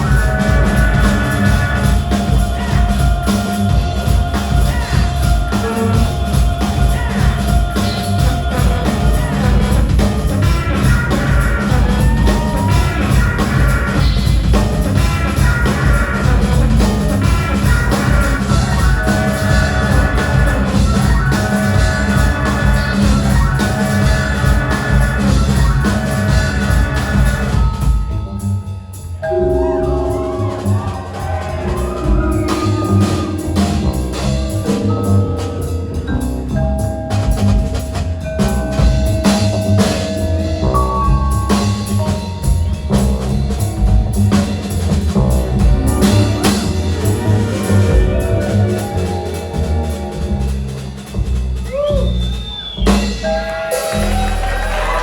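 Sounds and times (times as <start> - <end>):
bass guitar: 0.0 - 55.0
drum kit beat: 0.0 - 55.0
live rock band instrumental: 0.0 - 55.0.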